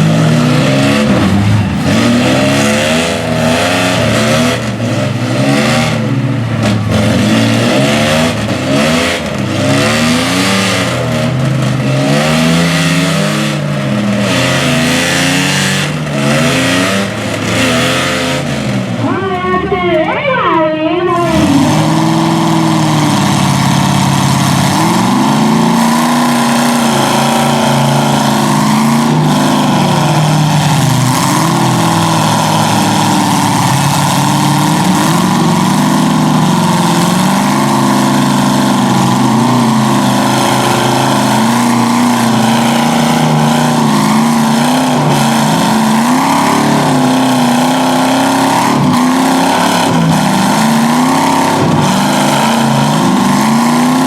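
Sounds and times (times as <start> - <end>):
truck engines revving high: 0.0 - 54.0.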